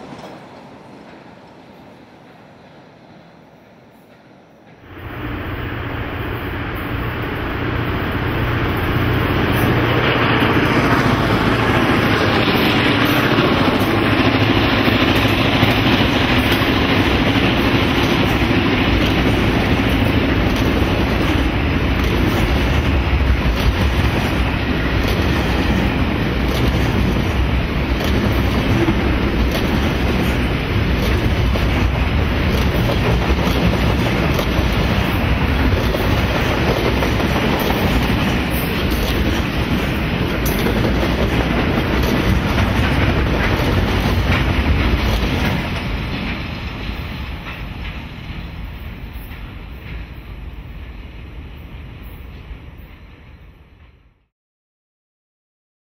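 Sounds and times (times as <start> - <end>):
train wheels clickety-clack: 0.0 - 2.8, 3.4 - 54.2
diesel locomotive engine drone: 0.0 - 54.3.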